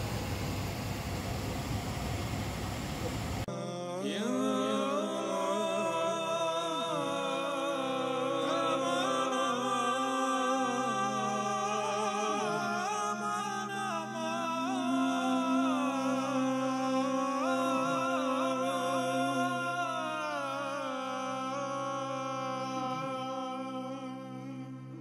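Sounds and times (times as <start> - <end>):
person singing sliding melody: 3.5 - 25.0.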